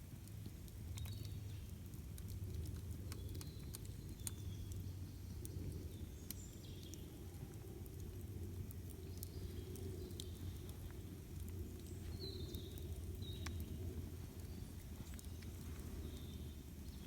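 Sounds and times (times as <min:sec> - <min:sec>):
campfire crackling and popping: 0:00.0 - 0:17.0
low rumble of burning wood: 0:00.0 - 0:17.0.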